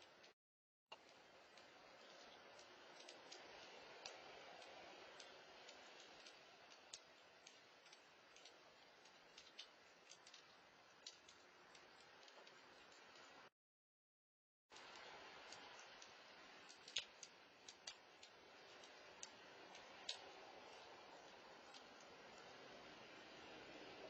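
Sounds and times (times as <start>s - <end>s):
small irregular clicks: 0.0s - 13.5s, 14.7s - 24.0s
faint hiss: 1.0s - 13.5s, 14.7s - 24.0s.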